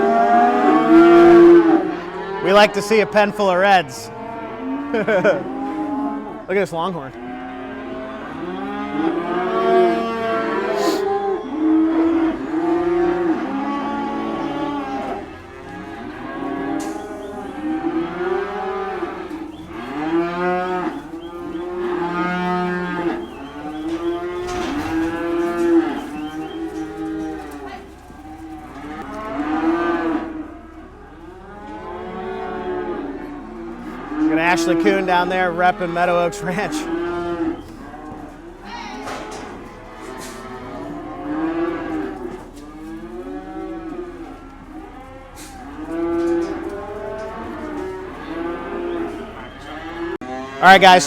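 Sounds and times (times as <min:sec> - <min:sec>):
cattle mooing: 0:00.0 - 0:51.0.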